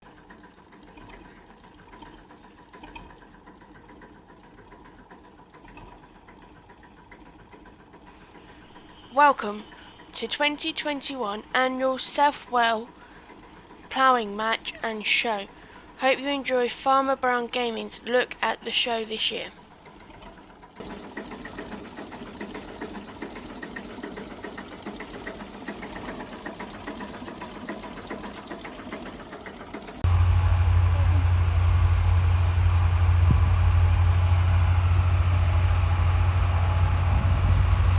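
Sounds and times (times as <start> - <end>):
faint engine clattering: 0.0 - 37.9.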